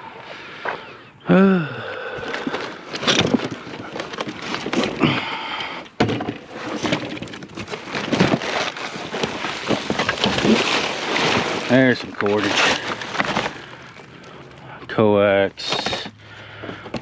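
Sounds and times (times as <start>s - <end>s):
junk items knocking and clattering: 2.0s - 17.0s.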